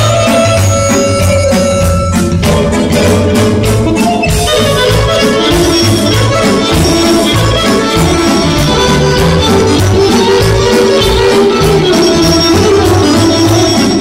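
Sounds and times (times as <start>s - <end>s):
accordion: 0.0s - 14.0s
folk band playing: 0.0s - 14.0s
violin: 0.0s - 14.0s.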